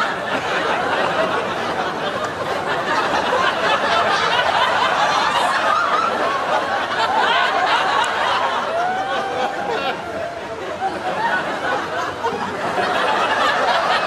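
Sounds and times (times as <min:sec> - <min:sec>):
audience laughing: 0:00.0 - 0:14.0.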